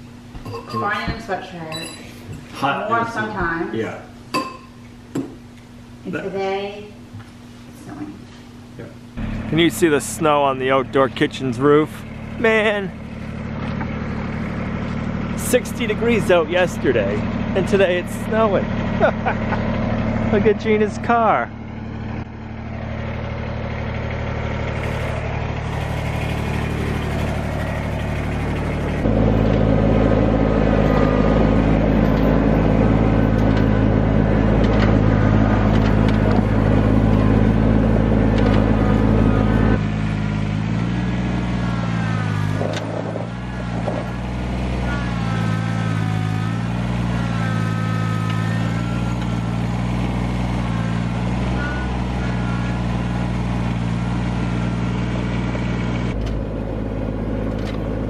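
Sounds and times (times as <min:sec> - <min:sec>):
tractor diesel engine running: 0:09.0 - 0:58.0.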